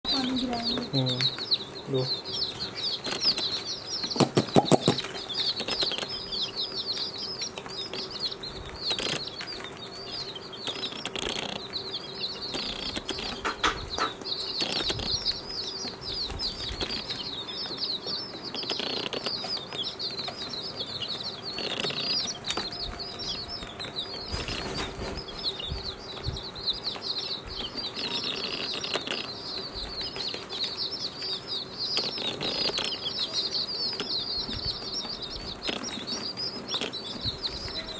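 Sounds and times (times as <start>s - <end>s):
baby chicks peeping: 0.0s - 37.9s.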